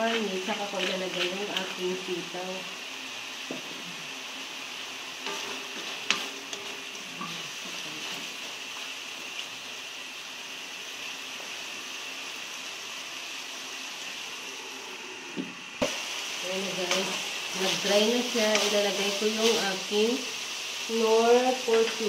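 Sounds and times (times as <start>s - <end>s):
meat sizzling in a wok: 0.0s - 22.0s.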